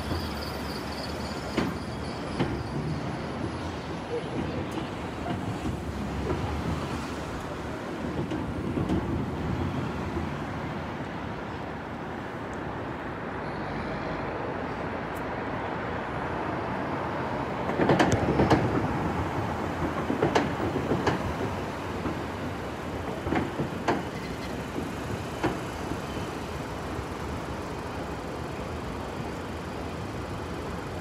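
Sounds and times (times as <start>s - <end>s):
city street traffic rumble: 0.0s - 31.0s.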